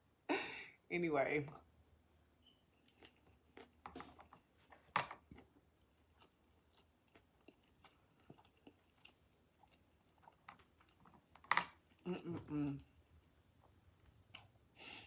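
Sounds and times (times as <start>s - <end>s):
person chewing food: 2.3s - 14.8s.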